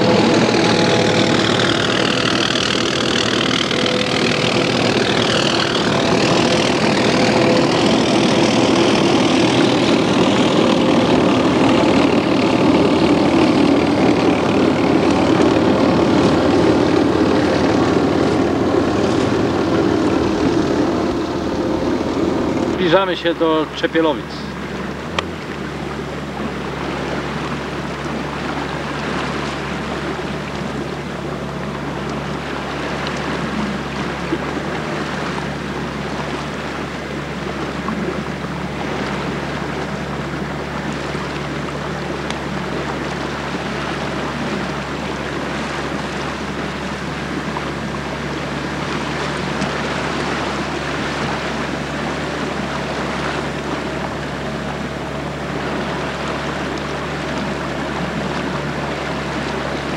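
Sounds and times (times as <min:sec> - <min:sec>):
rush of water: 0:00.0 - 0:59.9
small boat motor running: 0:00.0 - 0:59.9.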